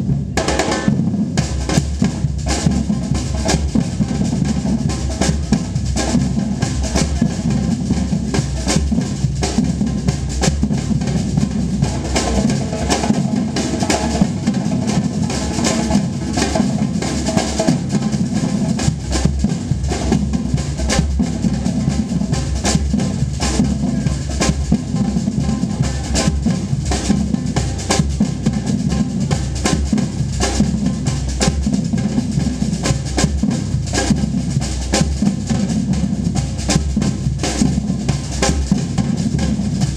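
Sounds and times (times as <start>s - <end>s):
fast snare-like drum strikes: 0.0s - 39.9s
heavy bass drums: 0.0s - 39.9s.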